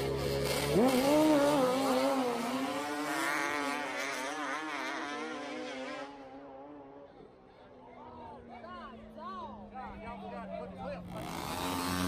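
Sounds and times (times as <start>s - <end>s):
engines accelerating at full throttle: 0.0s - 12.0s.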